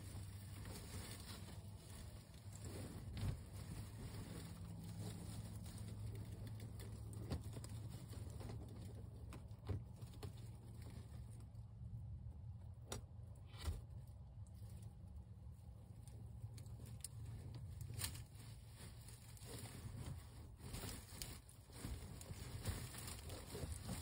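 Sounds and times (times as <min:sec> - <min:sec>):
faint rustling: 0:00.0 - 0:12.7, 0:13.3 - 0:24.0.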